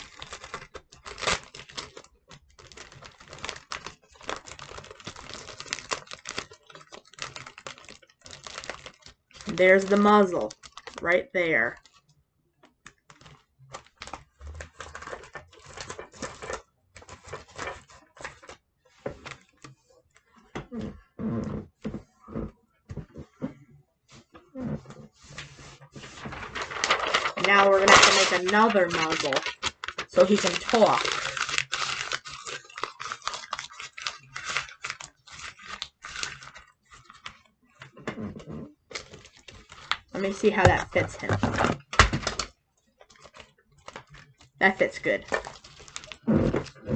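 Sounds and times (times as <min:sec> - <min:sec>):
paper crinkling: 0:00.0 - 0:20.6, 0:24.1 - 0:38.0, 0:38.7 - 0:46.9.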